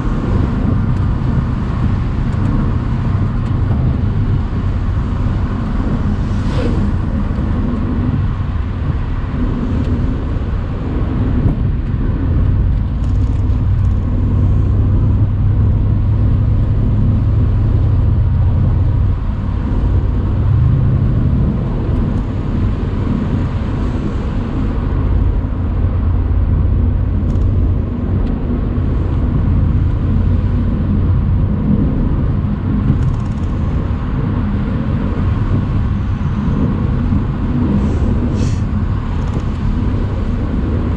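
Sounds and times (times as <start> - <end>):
car engine deep rumble: 0.0 - 40.9
wind noise: 0.0 - 40.9.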